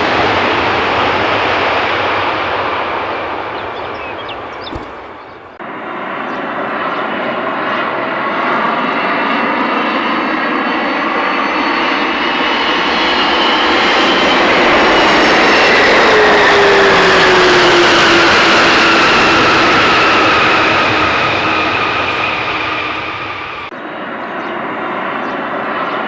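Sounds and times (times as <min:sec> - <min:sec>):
airliner engines: 0:00.0 - 0:26.0.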